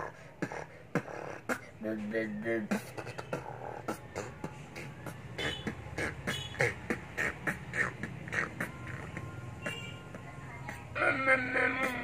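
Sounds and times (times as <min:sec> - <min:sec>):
boy beatboxing: 0:00.0 - 0:12.0.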